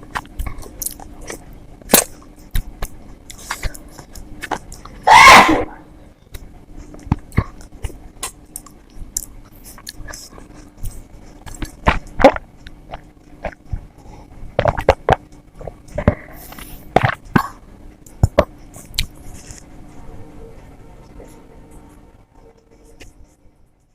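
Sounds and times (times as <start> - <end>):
close chewing and mouth sounds: 0.0 - 5.1, 6.3 - 23.9.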